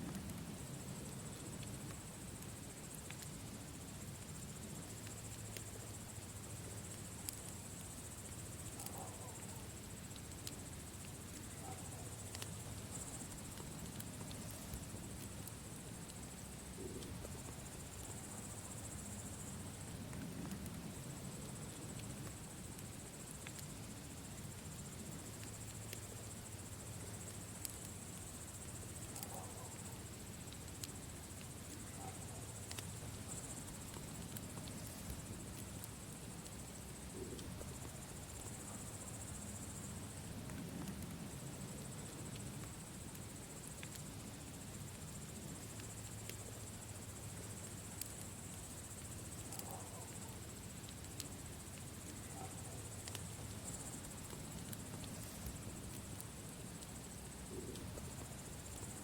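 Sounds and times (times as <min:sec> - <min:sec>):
campfire crackling and popping: 0:00.0 - 0:59.0
night insects chirping: 0:00.0 - 0:59.0.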